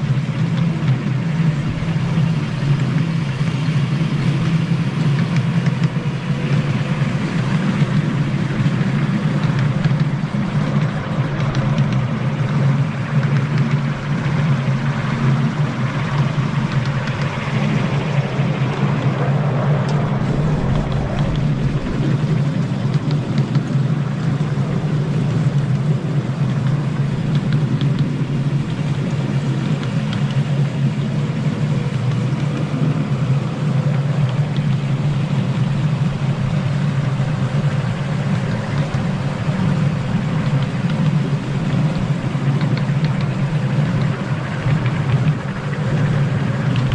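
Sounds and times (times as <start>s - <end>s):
locomotive engine droning: 0.0s - 46.9s.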